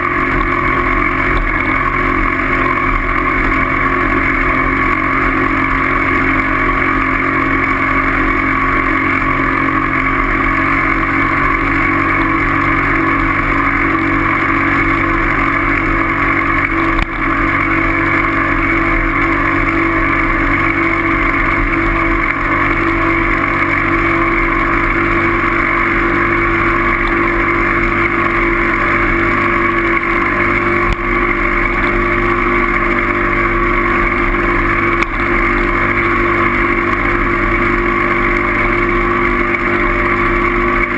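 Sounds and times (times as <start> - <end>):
steady motor drone: 0.0 - 40.9.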